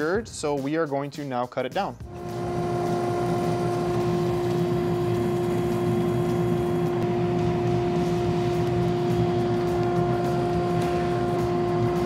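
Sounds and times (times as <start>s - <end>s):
milling machine hum: 2.1s - 12.0s
shop vacuum rushing: 2.1s - 12.0s.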